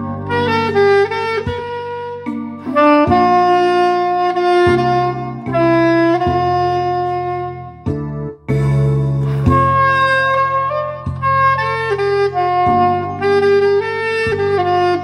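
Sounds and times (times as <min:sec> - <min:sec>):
backing track with bass and chords: 0:00.0 - 0:15.0
soprano saxophone melody: 0:00.0 - 0:15.0.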